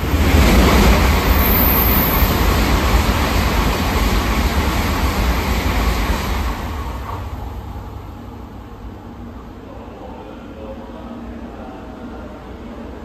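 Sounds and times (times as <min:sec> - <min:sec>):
high-speed train rumbling past: 0:00.0 - 0:13.0.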